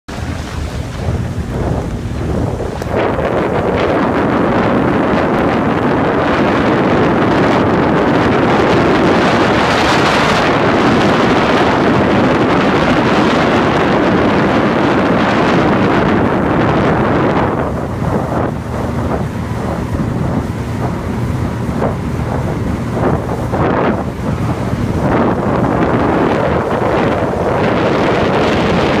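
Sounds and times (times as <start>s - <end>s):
boat motor: 0.1s - 29.0s
water rushing: 0.1s - 29.0s
wind buffeting microphone: 0.1s - 29.0s.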